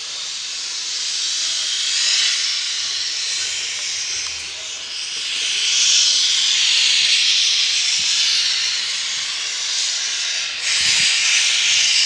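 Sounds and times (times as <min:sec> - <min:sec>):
steam locomotive venting steam: 0:00.0 - 0:12.0.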